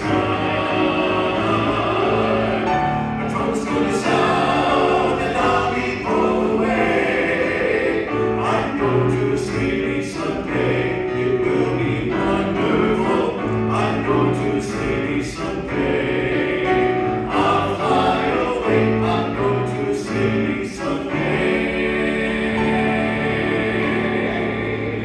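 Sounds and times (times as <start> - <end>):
piano accompaniment: 0.0 - 25.0.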